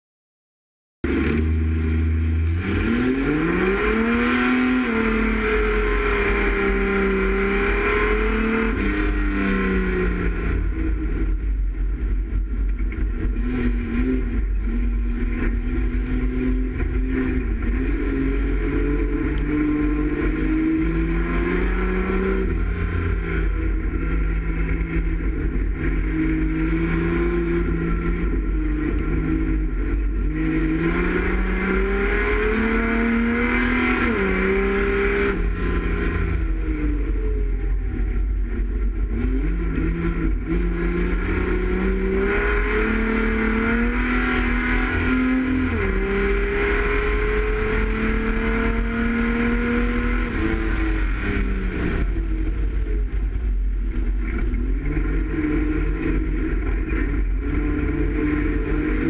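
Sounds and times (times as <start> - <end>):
race car engine revving: 1.0 - 59.0
road noise: 1.0 - 59.0.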